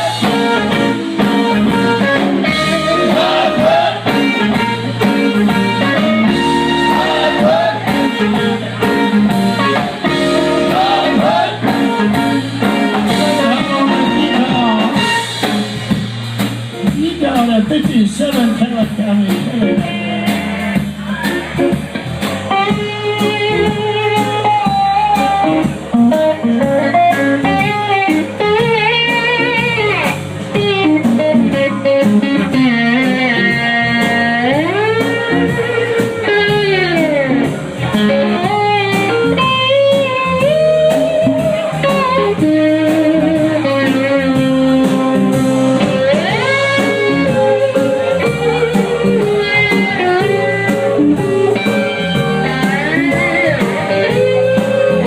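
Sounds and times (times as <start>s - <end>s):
electric guitar solo: 0.0s - 15.7s, 22.4s - 55.0s
bass: 0.0s - 55.0s
steady drum beat: 0.0s - 55.0s.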